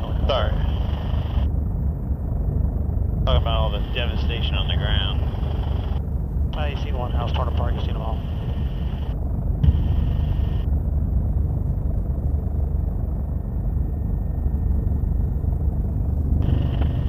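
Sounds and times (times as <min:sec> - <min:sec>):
helicopter rotor and engine rumble: 0:00.0 - 0:17.0.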